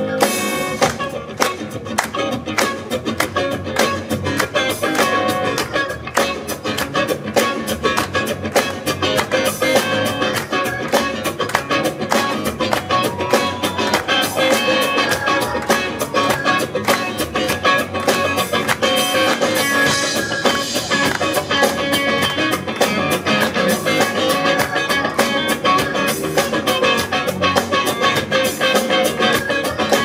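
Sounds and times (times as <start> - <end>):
drum kit beat: 0.0 - 30.0
guitars strumming: 0.0 - 30.0.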